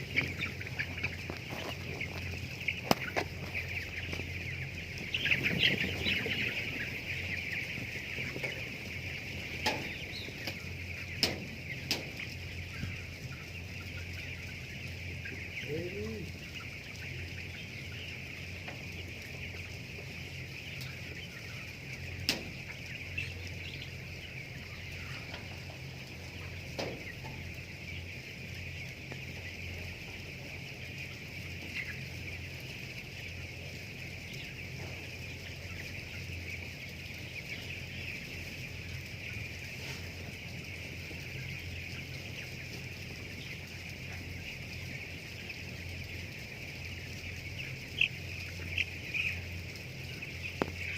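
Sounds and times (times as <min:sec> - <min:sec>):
chickens calling in chorus: 0:00.0 - 0:50.9.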